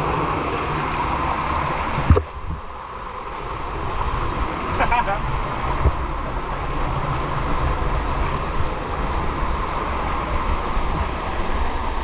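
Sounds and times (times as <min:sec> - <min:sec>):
rushing water with deep rumble: 0:00.0 - 0:12.0.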